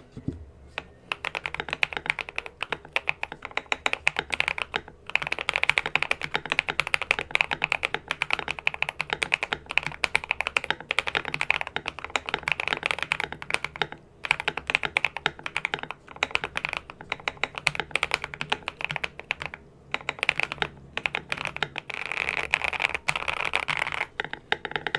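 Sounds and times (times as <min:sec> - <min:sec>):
fast typing on mechanical keyboard: 0:00.8 - 0:24.9.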